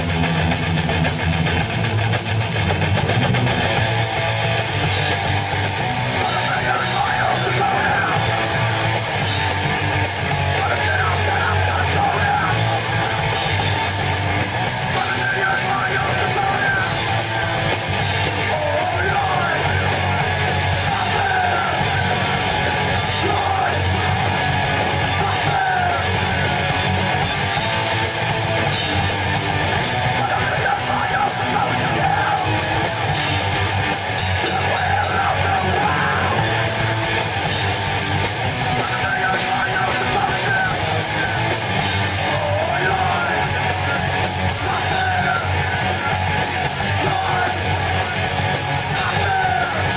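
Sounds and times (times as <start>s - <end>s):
heavy rock band playing: 0.0s - 49.9s
singer yelling: 3.5s - 49.9s.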